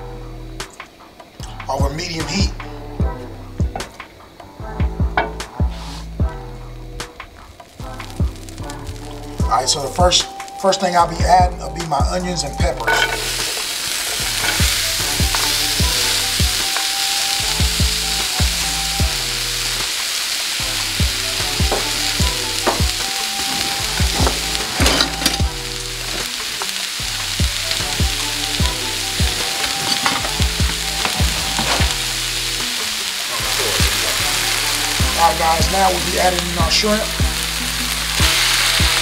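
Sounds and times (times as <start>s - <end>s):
quiet background music: 0.0s - 39.0s
vegetables sizzling in a skillet: 2.3s - 11.1s, 12.7s - 39.0s.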